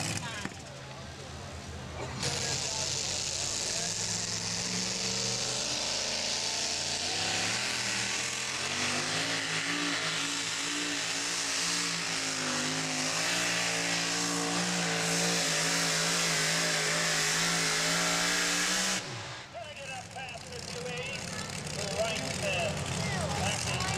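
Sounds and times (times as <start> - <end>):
truck engine running wide open: 0.0 - 23.9.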